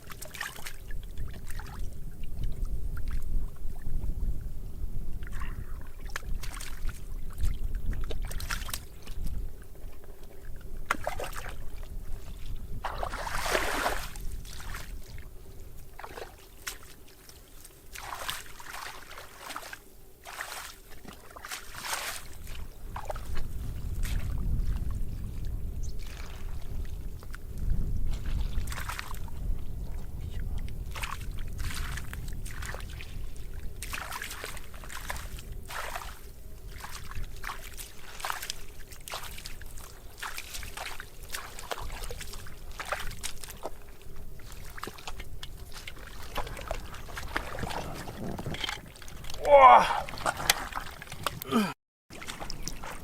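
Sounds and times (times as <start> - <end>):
water splashing and sloshing: 0.0 - 4.3, 5.1 - 53.0.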